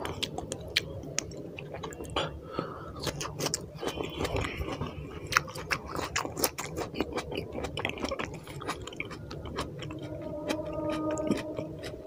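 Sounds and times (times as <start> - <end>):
close chewing with wet mouth clicks: 0.0 - 12.0.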